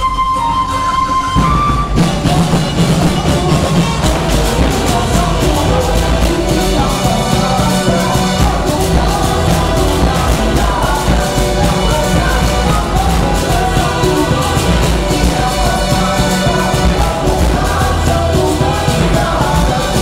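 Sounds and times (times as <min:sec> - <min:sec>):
drums and percussion beat: 0:00.0 - 0:20.0
voices singing: 0:00.0 - 0:20.0.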